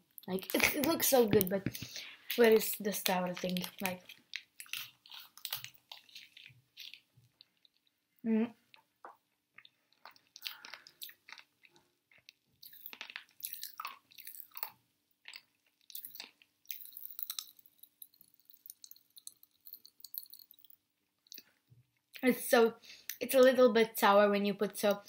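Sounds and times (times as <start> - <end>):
chewing popping candy crackles: 0.1 - 22.3.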